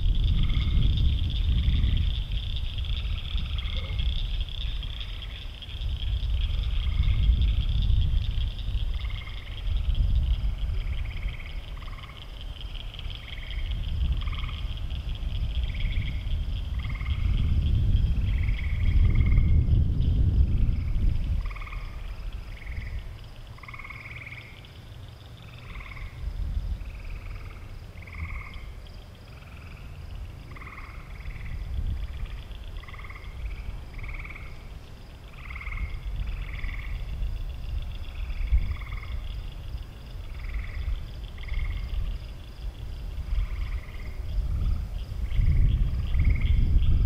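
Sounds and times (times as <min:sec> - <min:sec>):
low rumble: 0:00.0 - 0:23.4, 0:25.5 - 0:47.0
frogs croaking: 0:00.0 - 0:47.0.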